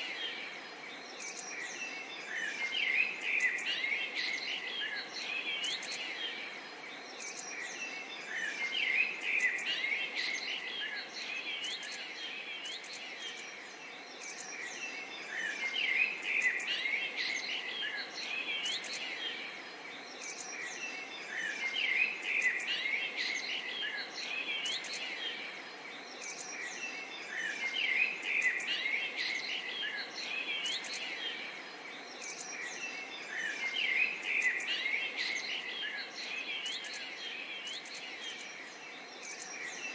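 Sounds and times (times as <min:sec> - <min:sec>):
faint background hiss: 0:00.0 - 0:39.9
songbirds chirping in chorus: 0:00.0 - 0:39.9.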